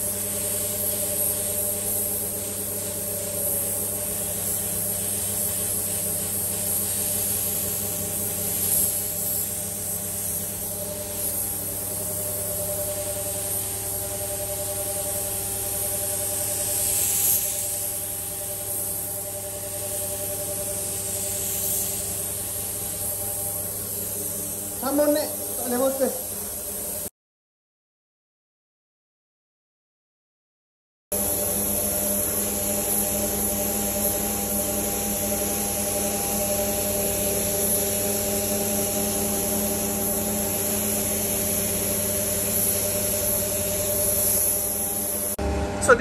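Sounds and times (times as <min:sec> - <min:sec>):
steady machine hum: 0:00.0 - 0:26.8, 0:31.2 - 0:46.0
spray gun hissing: 0:00.0 - 0:27.1, 0:31.2 - 0:45.4.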